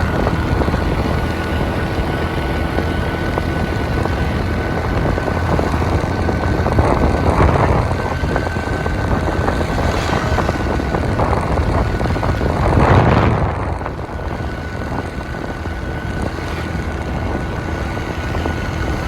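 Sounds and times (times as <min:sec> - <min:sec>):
motorbike engine hum: 0:00.0 - 0:19.0
wind rumble on microphone: 0:00.0 - 0:19.0.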